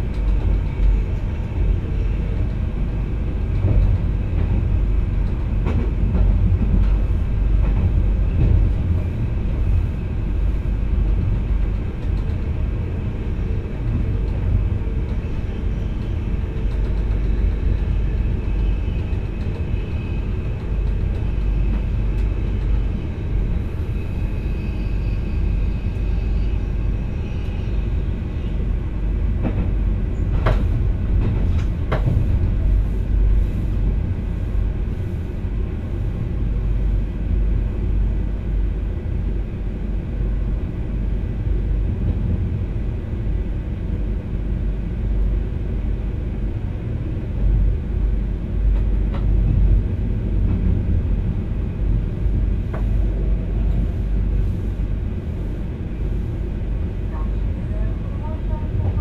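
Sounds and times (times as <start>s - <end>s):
electric train rumble: 0.0s - 59.0s.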